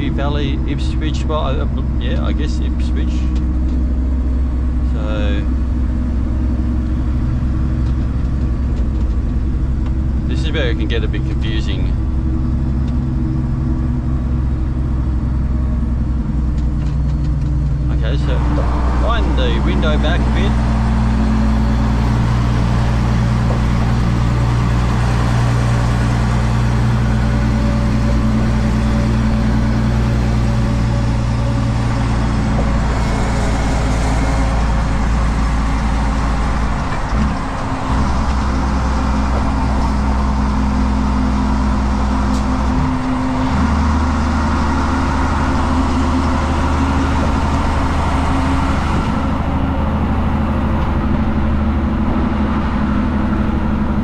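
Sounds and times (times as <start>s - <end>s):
gear changes: 0.0s - 54.0s
truck diesel engine pulling: 0.0s - 54.0s
wind and road noise: 0.0s - 54.0s.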